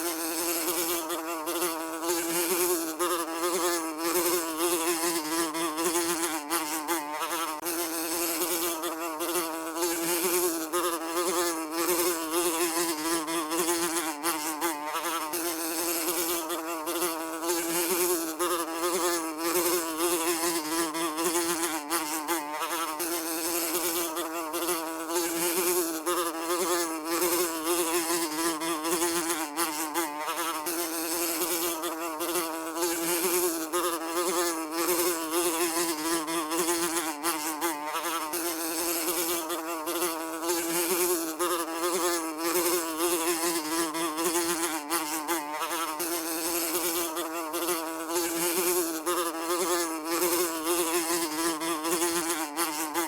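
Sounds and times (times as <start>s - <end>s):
fly buzzing: 0.0s - 53.0s.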